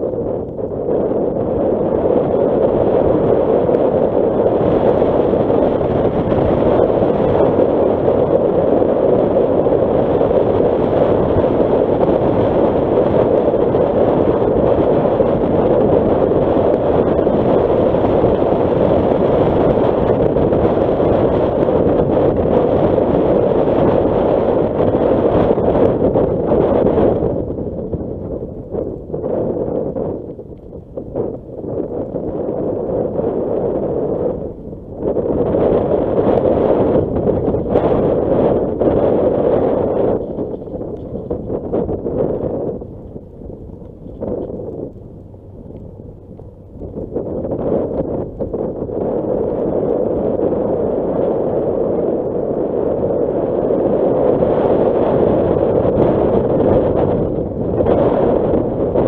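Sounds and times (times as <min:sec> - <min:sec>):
wind buffeting microphone: 0:00.0 - 0:59.0
car rolling on gravel rumble: 0:00.4 - 0:53.1.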